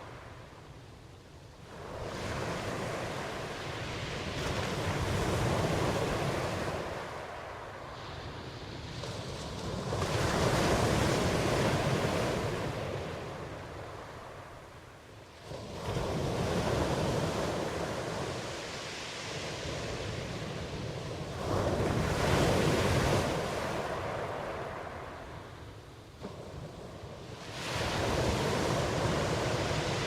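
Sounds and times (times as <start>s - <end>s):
ocean waves washing ashore: 0.0s - 30.0s.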